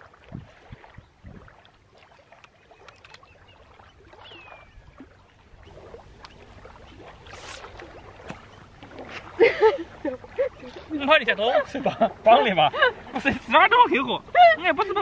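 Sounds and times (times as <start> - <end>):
water lapping at bank: 0.0 - 15.0.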